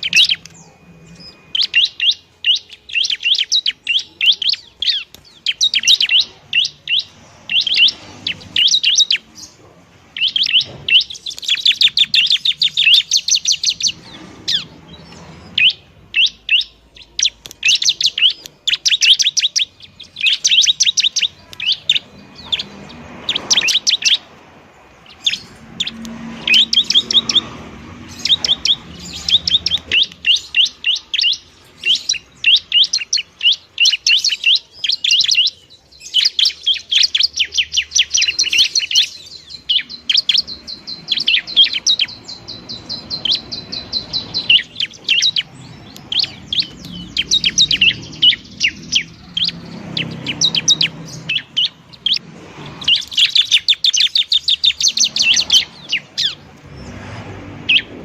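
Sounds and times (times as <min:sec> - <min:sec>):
bird singing sharp high chirps: 0:00.0 - 0:58.0.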